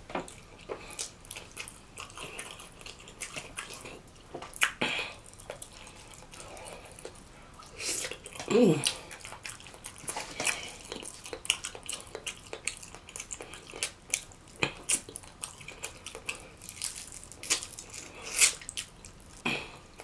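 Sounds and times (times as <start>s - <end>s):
wet chewing and lip smacking: 0.1s - 20.0s.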